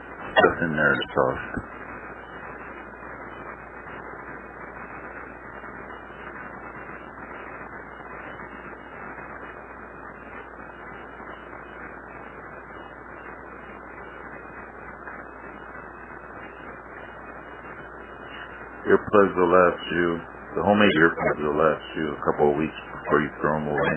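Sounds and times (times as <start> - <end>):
low hum: 0.0 - 23.9.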